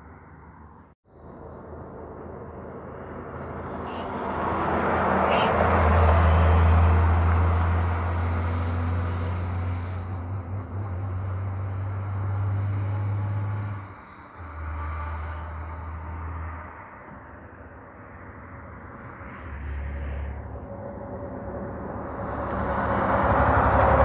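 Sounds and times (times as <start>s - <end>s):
heavy truck engine drone: 0.0s - 24.0s.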